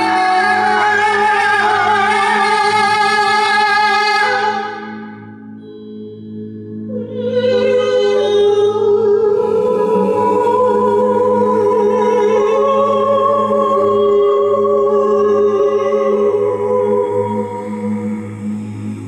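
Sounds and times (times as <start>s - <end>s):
steady low drone: 0.0s - 19.0s.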